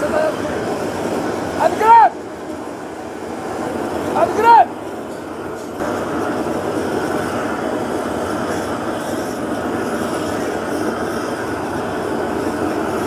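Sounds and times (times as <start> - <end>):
gas torch flame rushing: 0.0 - 13.0.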